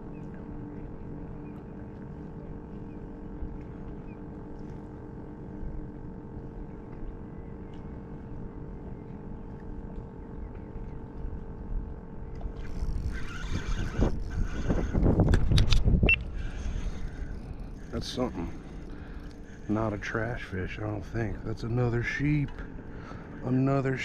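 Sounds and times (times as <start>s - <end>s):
boat motor humming: 0.0s - 24.0s.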